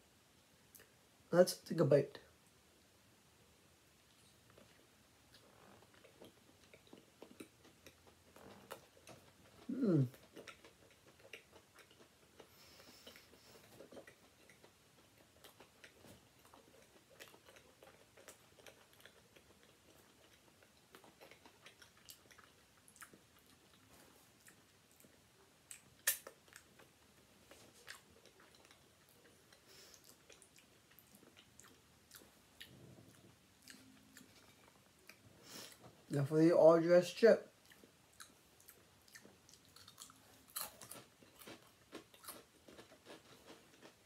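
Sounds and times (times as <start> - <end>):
quiet chewing: 4.0 - 36.1, 37.5 - 44.0.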